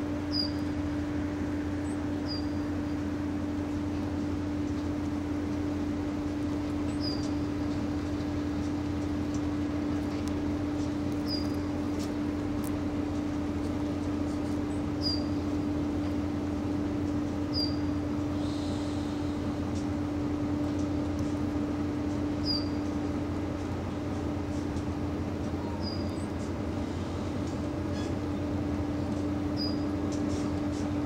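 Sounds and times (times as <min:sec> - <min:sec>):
diesel locomotive idling: 0:00.0 - 0:31.0.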